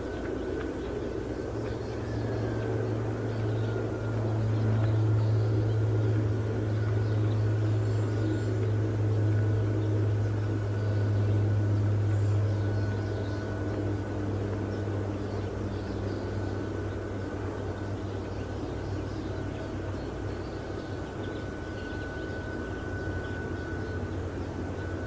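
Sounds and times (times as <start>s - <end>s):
low engine-like hum: 0.0s - 25.0s.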